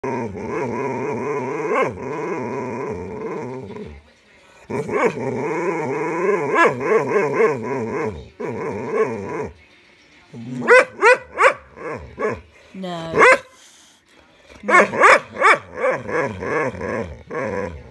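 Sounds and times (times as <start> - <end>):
dog grumbling whines: 0.0 - 4.0, 4.7 - 9.6, 10.3 - 13.4, 14.6 - 17.9.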